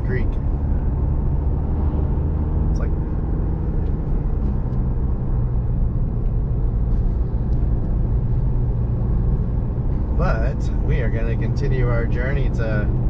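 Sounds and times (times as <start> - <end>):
diesel engine drone: 0.0 - 13.0
road rumble: 0.0 - 13.0.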